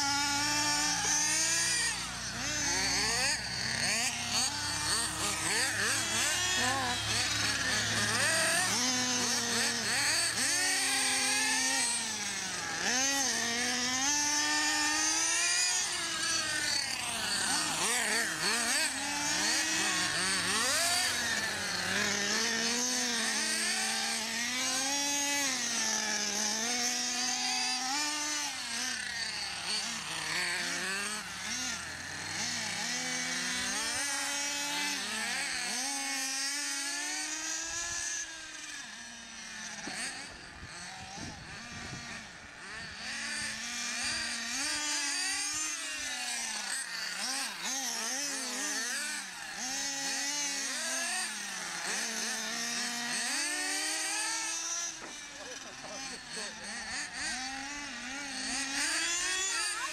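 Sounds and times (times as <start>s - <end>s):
small engines revving and whining: 0.0s - 59.9s.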